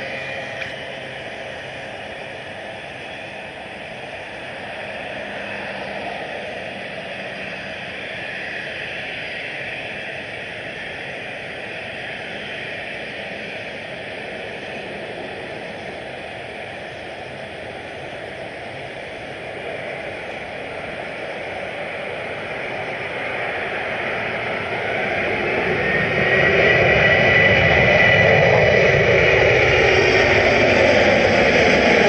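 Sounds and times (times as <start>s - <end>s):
high engine whine: 0.0s - 32.0s
jet engines roaring: 0.0s - 32.0s.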